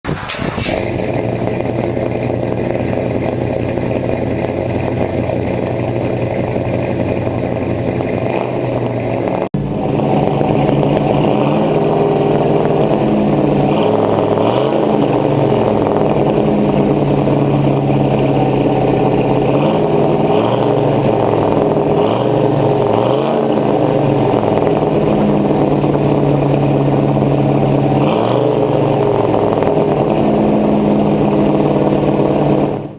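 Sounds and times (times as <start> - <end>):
pickup engine idling and revving: 0.1 - 32.9.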